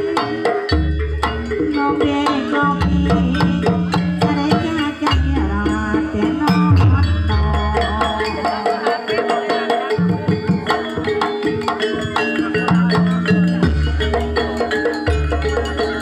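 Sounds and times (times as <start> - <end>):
ringing metallophone notes: 0.0 - 16.0.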